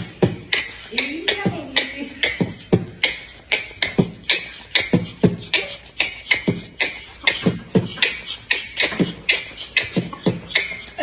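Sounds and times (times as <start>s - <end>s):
beatbox deep thumps: 0.0s - 11.0s
beatbox hissing snare hits: 0.0s - 11.0s.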